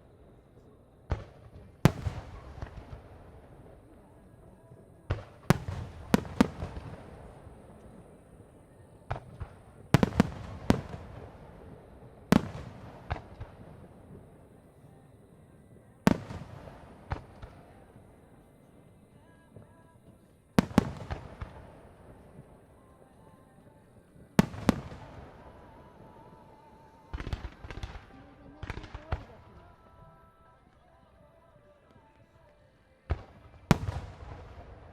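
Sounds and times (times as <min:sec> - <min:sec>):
fireworks shells booming: 0:00.0 - 0:30.2
rolling echo: 0:00.0 - 0:34.9.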